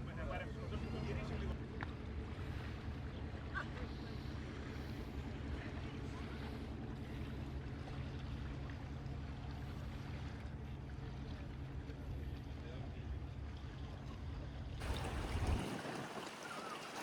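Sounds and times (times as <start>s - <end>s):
boat engine idling: 0.0s - 13.8s, 14.8s - 17.0s.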